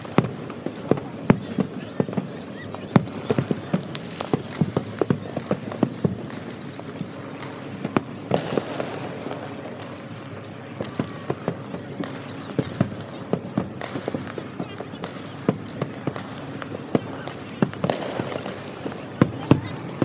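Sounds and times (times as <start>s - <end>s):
distant fireworks bangs: 0.0s - 20.0s.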